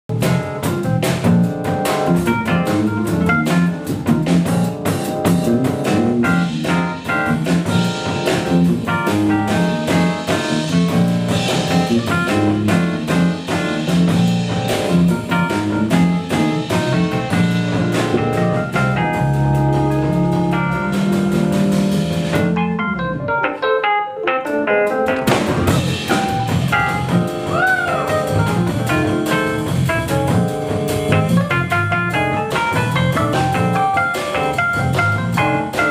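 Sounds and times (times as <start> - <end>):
electric bass: 0.1 - 23.6, 24.5 - 35.9
drum kit: 0.1 - 35.9
electric keyboard: 0.1 - 35.9.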